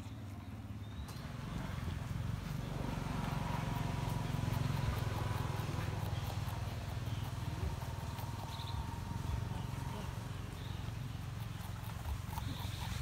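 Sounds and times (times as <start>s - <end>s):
porcupine crunching leaves: 0.0s - 13.0s.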